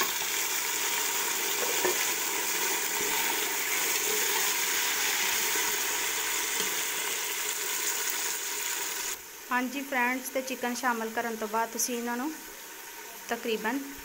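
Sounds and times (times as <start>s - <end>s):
chicken sizzling in hot oil: 0.0s - 13.5s.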